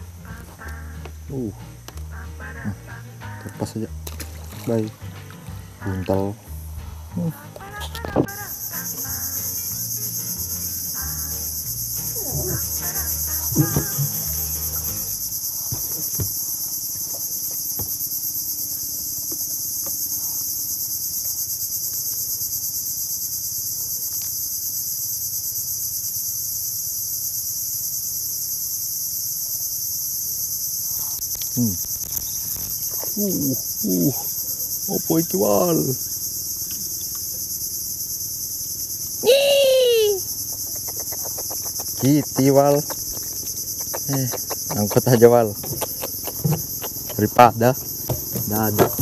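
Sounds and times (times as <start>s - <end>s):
insect chorus buzzing: 0.0s - 49.0s.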